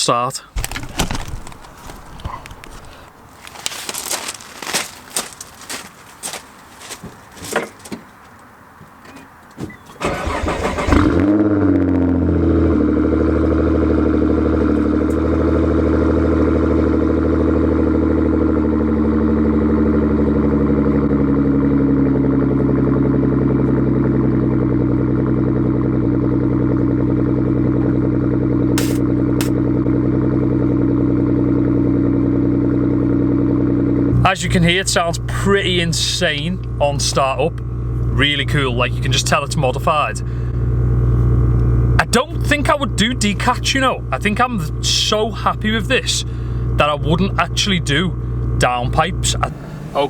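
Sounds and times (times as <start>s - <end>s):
car engine starting and idling: 0.0s - 50.0s.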